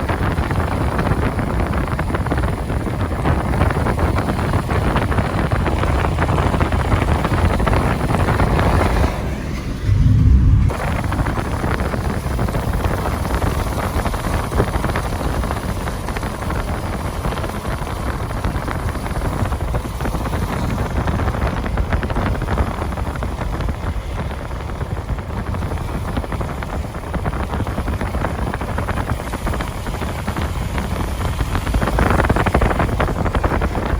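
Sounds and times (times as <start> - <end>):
car road noise: 0.0 - 33.9
wind buffeting microphone: 0.0 - 33.9.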